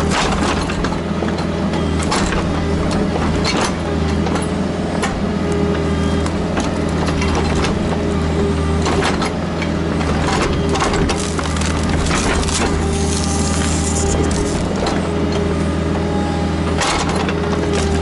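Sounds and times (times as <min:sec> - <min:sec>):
excavator bucket clanking and knocking: 0:00.0 - 0:05.3, 0:06.4 - 0:08.0, 0:08.8 - 0:15.5, 0:16.7 - 0:18.0
excavator diesel engine running: 0:00.0 - 0:18.0.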